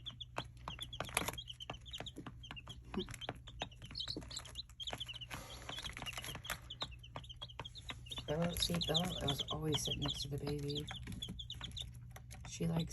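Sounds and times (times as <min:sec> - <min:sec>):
baby chicks peeping: 0:00.0 - 0:12.9
chickens pecking at feed: 0:00.0 - 0:12.9.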